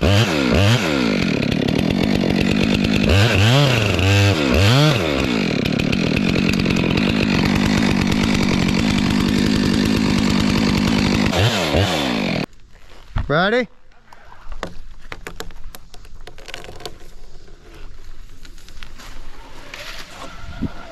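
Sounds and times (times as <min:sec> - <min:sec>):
chainsaw cutting wood: 0:00.0 - 0:12.5, 0:16.2 - 0:20.9.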